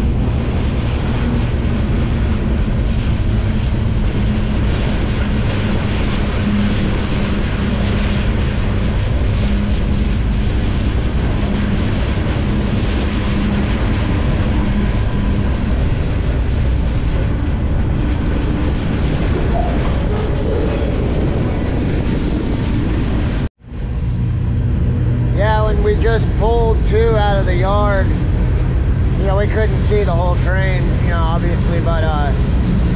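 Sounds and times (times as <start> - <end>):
train wheels on rail: 0.0 - 32.9.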